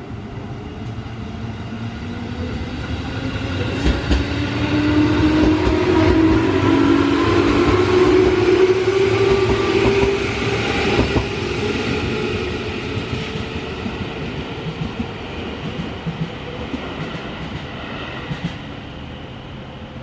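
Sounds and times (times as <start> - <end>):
train rumble and wheel clatter: 0.0 - 20.0.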